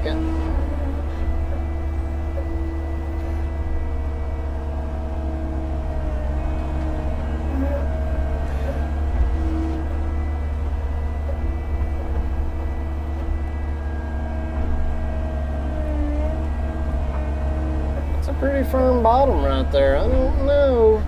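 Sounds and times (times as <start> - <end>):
diesel engine running: 0.0 - 21.0
hydraulic whine: 0.0 - 21.0.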